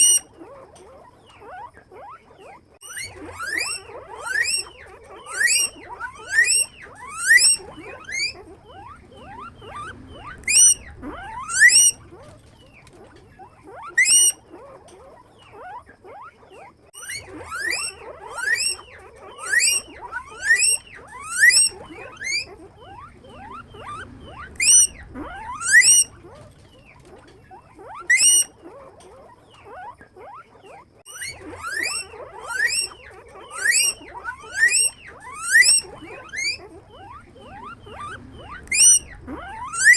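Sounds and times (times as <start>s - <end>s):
faint squeaks: 0.0s - 39.9s
guinea pigs wheeking: 0.0s - 39.9s.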